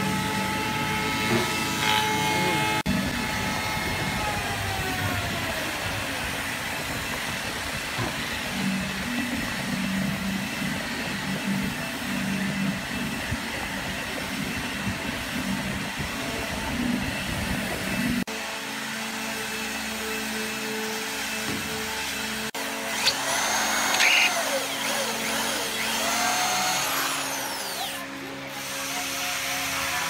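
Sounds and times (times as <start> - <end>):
workshop machinery hum: 0.0 - 30.0.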